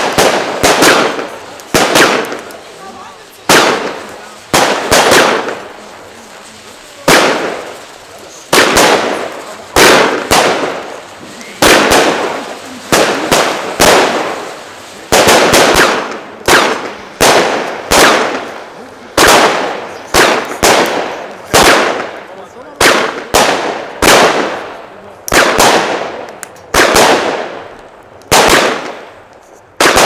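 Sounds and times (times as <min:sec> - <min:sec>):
fireworks bangs with echo: 0:00.0 - 0:30.0.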